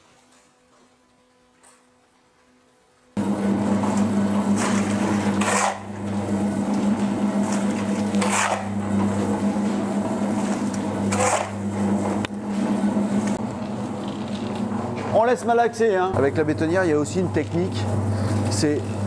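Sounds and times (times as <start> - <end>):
cement mixer humming: 3.2 - 19.0.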